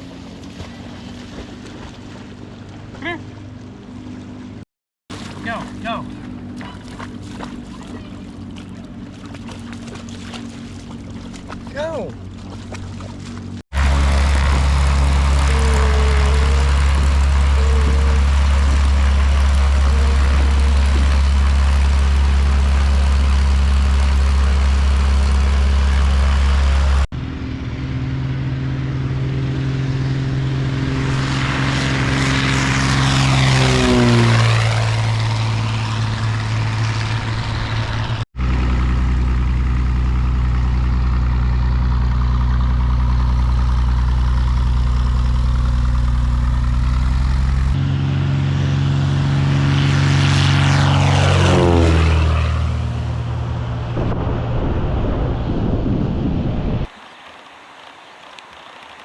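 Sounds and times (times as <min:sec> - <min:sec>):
airplane passing close: 0:00.0 - 0:59.0
propeller airplane engine drone: 0:00.0 - 0:59.0.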